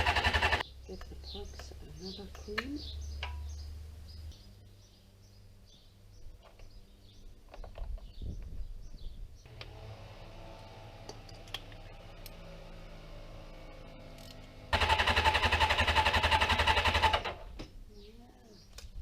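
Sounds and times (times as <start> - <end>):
low mechanical hum: 0.0 - 18.2.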